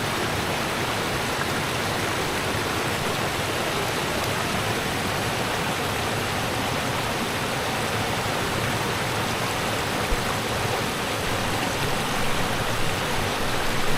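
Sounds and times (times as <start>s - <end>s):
rushing river water: 0.0s - 13.9s.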